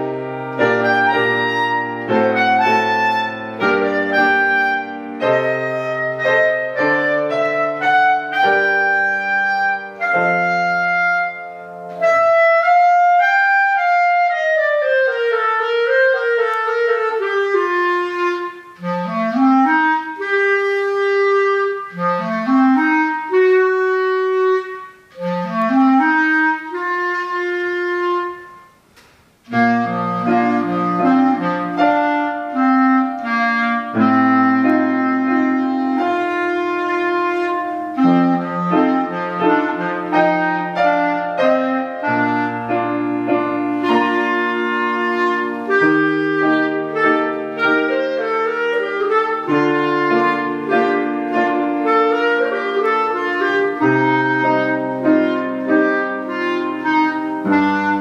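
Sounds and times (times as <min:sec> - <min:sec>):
clarinet melody: 0:00.0 - 0:58.0
piano chords: 0:00.0 - 0:58.0.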